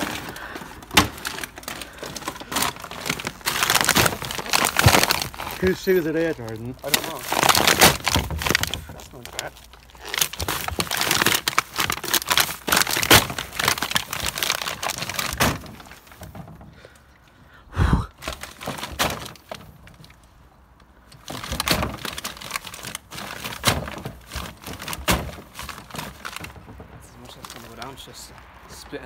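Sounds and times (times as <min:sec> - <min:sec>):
plastic bags crinkling underfoot: 0:00.0 - 0:16.7, 0:18.2 - 0:28.9.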